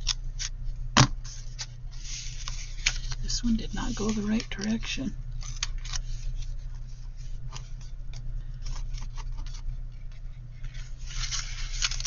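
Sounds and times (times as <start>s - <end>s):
steady low hum: 0.0s - 12.0s
paper rustling: 1.2s - 12.0s.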